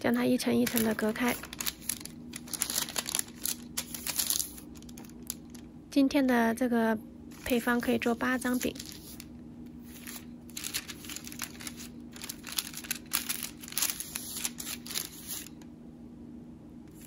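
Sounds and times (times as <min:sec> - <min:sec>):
parchment paper crinkling: 0:00.1 - 0:05.7, 0:07.3 - 0:15.7.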